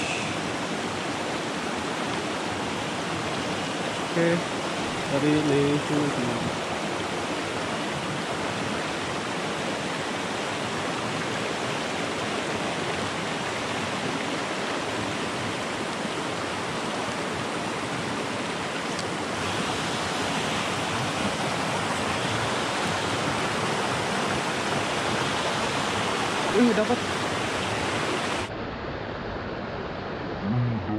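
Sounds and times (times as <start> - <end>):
stream rushing over stones: 0.0 - 28.5.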